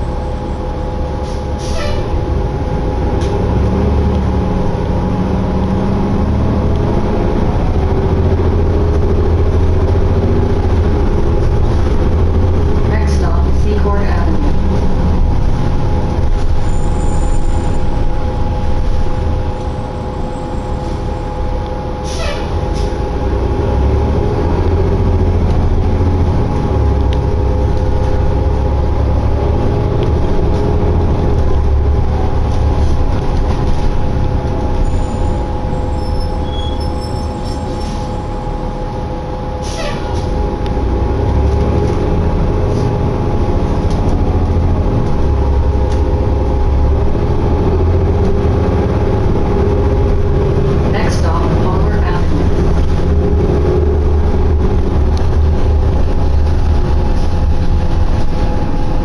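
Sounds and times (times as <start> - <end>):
bus engine rumble: 0.0 - 59.0
constant whine: 0.0 - 59.0.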